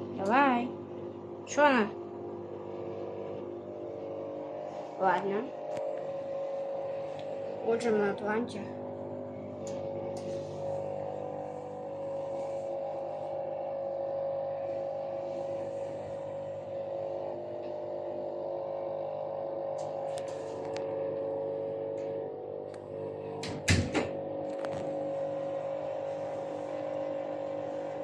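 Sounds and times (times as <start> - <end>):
washing machine motor whine: 0.0 - 28.0.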